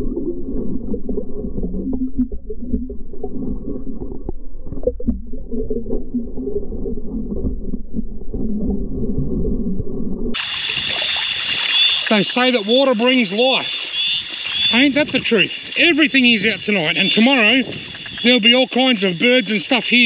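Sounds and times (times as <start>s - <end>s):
muffled underwater water rush: 0.0s - 20.0s.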